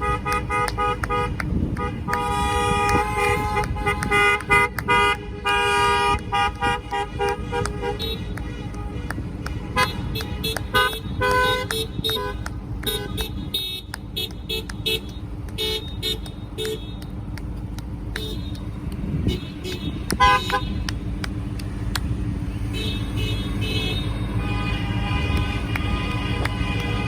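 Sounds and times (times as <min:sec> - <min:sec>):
car horns honking: 0:00.0 - 0:17.4, 0:18.1 - 0:21.4, 0:22.1 - 0:27.0
traffic rumble: 0:00.0 - 0:27.0.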